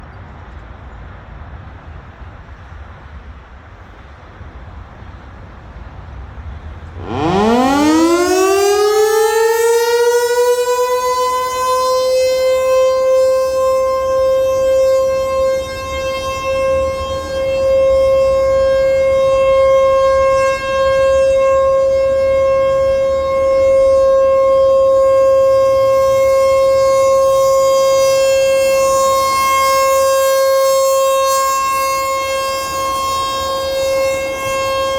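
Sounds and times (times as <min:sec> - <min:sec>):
warning siren wailing: 0:06.8 - 0:34.9.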